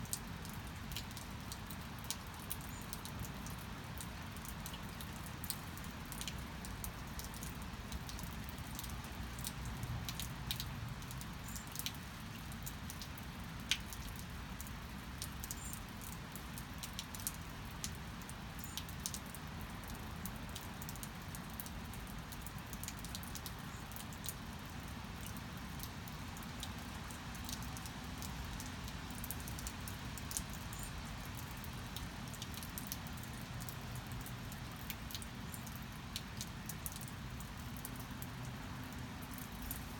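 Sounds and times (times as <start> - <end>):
raindrops and drips ticking: 0.0 - 39.9
steady rain: 0.0 - 39.9.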